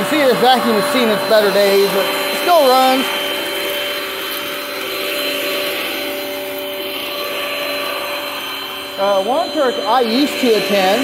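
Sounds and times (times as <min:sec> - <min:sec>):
upright vacuum running: 0:00.0 - 0:11.0.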